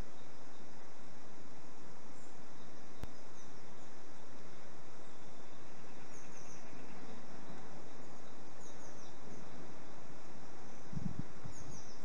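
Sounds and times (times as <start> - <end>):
faint high bird chirps: 0.0 - 1.1, 2.1 - 12.0
steady background hiss: 0.0 - 12.0.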